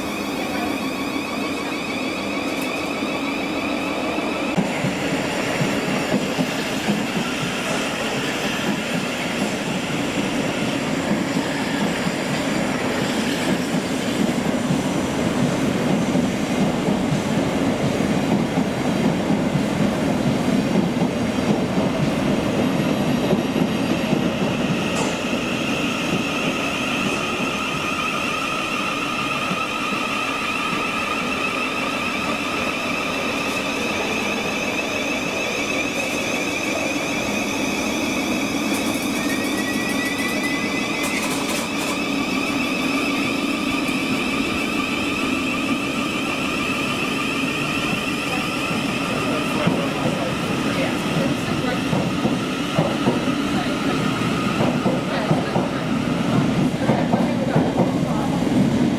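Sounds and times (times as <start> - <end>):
electric train rumbling: 0.0 - 58.9.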